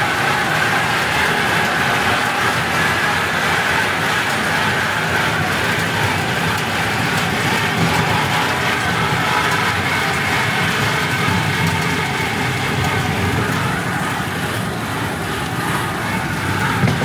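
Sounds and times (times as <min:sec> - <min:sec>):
train car wheels running: 0:00.0 - 0:17.0.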